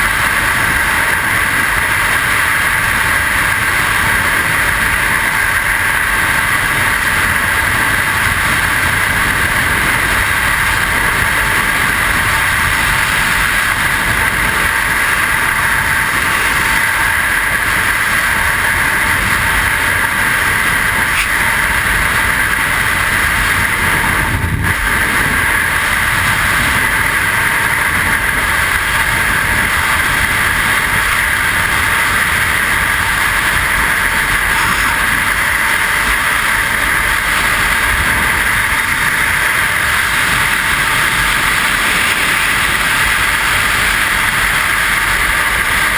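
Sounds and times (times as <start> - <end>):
wind rushing over camera: 0.0 - 45.9.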